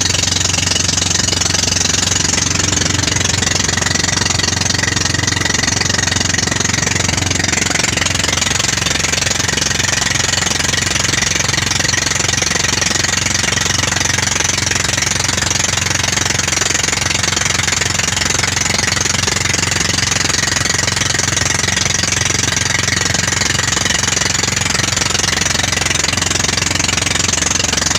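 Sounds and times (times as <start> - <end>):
boat engine running: 0.0 - 27.9
water rushing past hull: 0.0 - 27.9.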